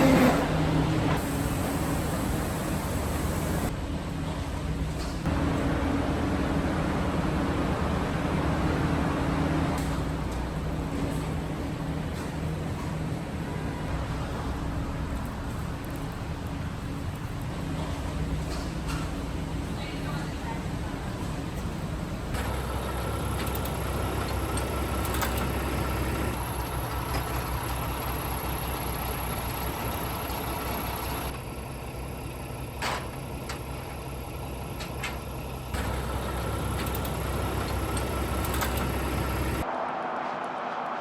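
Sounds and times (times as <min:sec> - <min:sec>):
machinery humming: 0:00.0 - 0:39.8.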